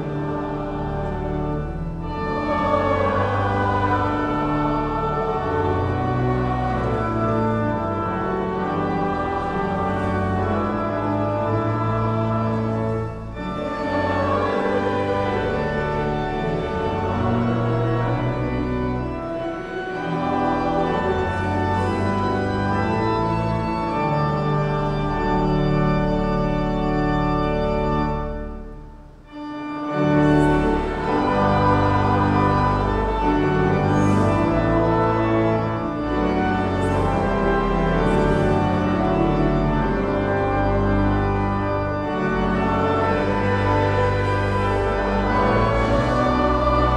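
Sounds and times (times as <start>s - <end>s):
pipe organ chords: 0.0s - 46.9s.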